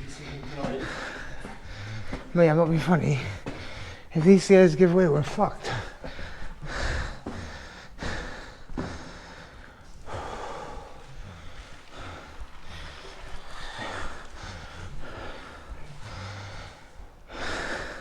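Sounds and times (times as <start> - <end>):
man breathing heavily: 0.0 - 2.4, 3.2 - 4.2, 5.6 - 18.0.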